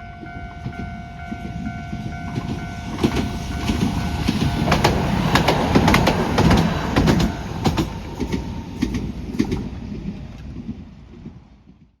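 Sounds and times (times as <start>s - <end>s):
low train rumble: 0.0s - 12.0s
train wheels clicking over rail joints: 0.2s - 11.9s.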